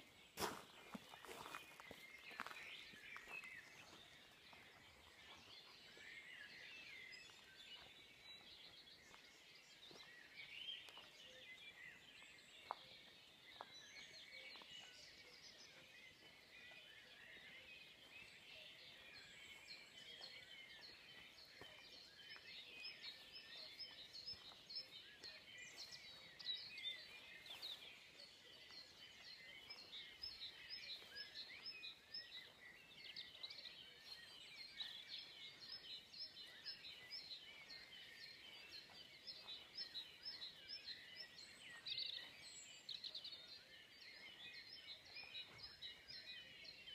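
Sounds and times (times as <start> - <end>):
songbirds singing and calling: 0.0 - 46.9.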